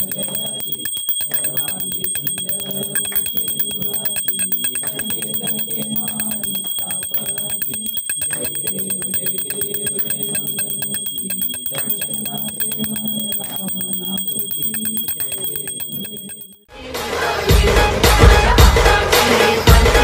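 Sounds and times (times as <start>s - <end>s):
brass hand bell rung rapidly: 0.0s - 16.6s.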